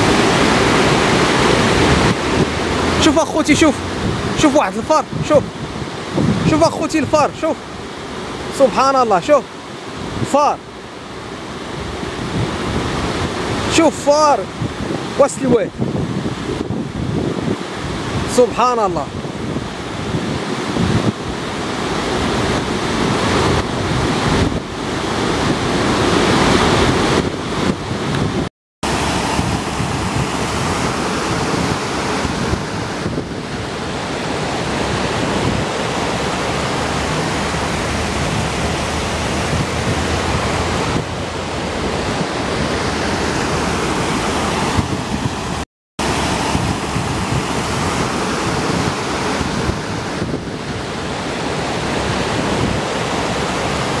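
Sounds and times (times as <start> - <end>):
wind buffeting microphone: 0.0 - 8.4, 9.7 - 13.7, 14.4 - 18.3, 19.0 - 54.0
rushing floodwater: 0.0 - 54.0.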